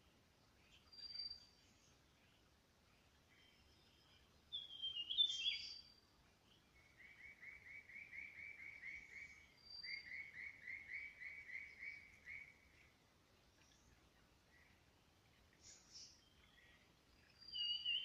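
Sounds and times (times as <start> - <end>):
birds chirping: 0.5 - 18.0.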